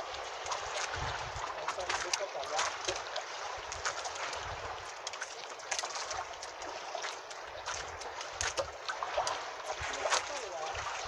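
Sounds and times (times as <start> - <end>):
water sloshing against boat: 0.0 - 11.0.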